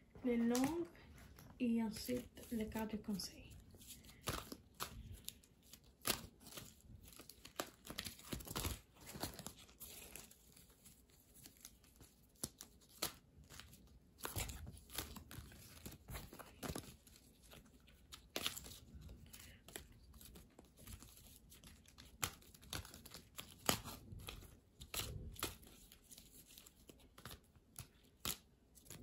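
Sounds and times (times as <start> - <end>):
cards being shuffled: 0.4 - 29.0.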